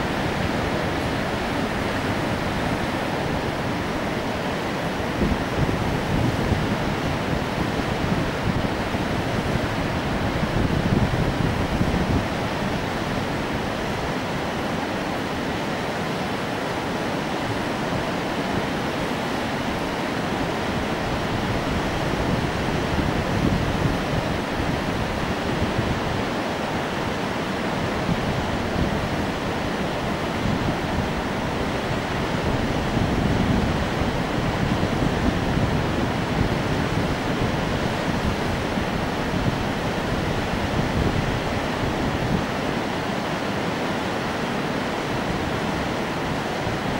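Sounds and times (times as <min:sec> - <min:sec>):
fast-flowing river water rushing: 0:00.0 - 0:46.9.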